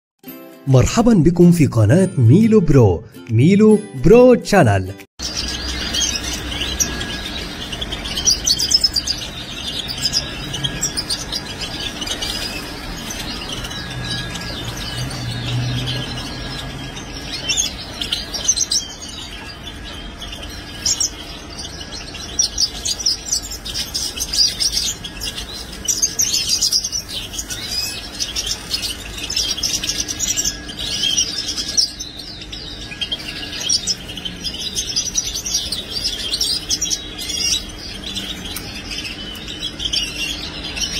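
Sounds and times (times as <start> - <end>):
finches chirping: 1.5 - 40.9.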